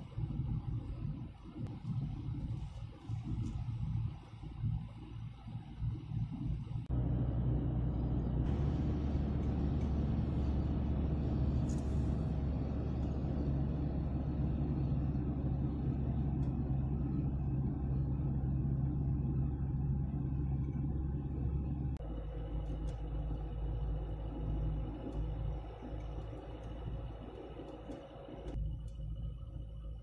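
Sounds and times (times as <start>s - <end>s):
car interior road drone: 0.0s - 30.0s.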